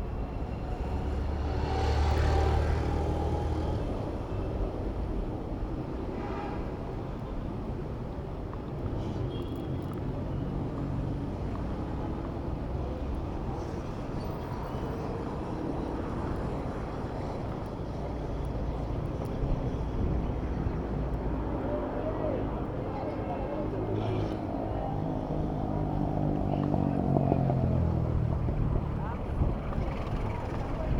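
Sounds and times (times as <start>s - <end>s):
city traffic rumble: 0.0s - 30.9s.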